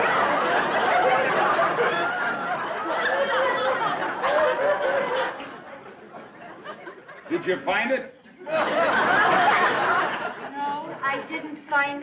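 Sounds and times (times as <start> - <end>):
audience laughing: 0.0 - 11.5.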